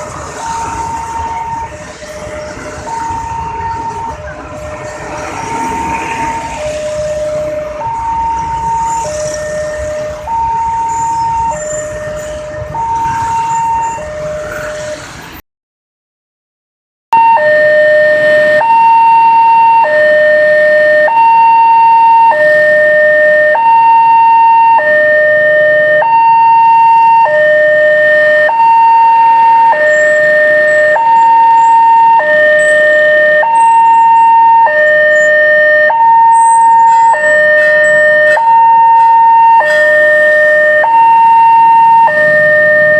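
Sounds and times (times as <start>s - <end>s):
two-tone level crossing siren: 0.0s - 15.2s, 17.1s - 42.9s.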